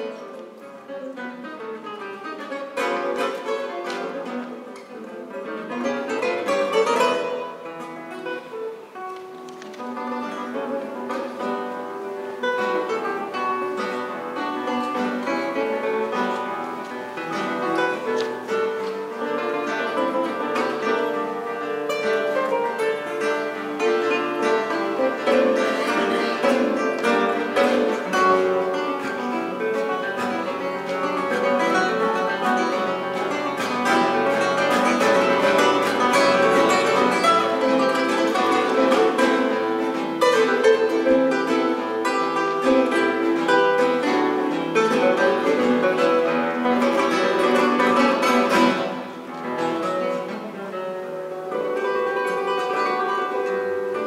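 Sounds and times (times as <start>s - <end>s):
nylon-string guitars plucking: 0.0s - 54.0s.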